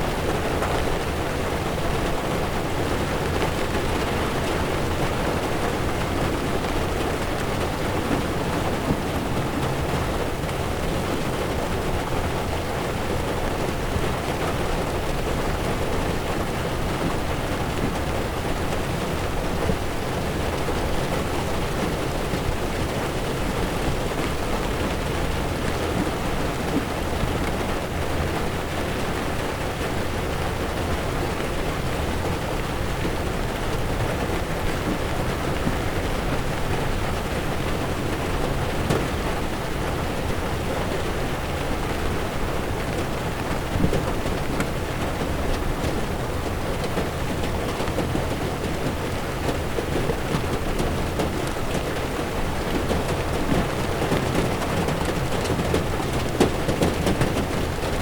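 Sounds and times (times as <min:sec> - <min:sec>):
rain on car windshield: 0:00.0 - 0:58.0
tyres on wet road: 0:00.0 - 0:58.0.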